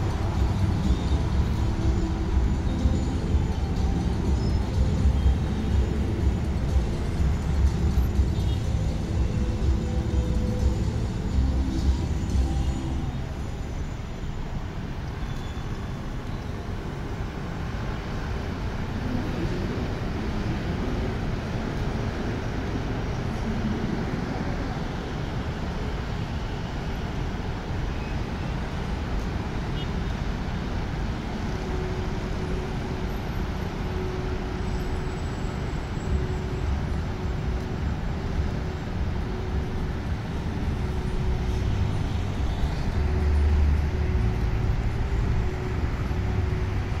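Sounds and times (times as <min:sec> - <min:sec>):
steady road traffic: 0:00.0 - 0:47.0.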